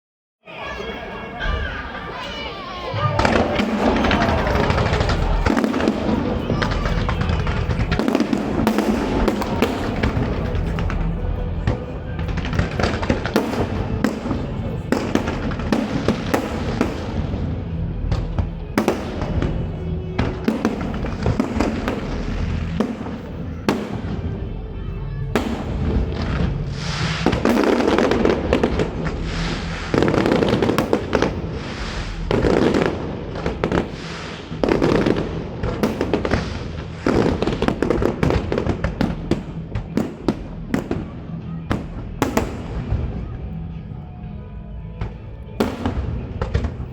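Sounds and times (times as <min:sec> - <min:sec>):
fireworks bangs and crackling: 0:02.8 - 0:44.1, 0:44.7 - 0:46.9.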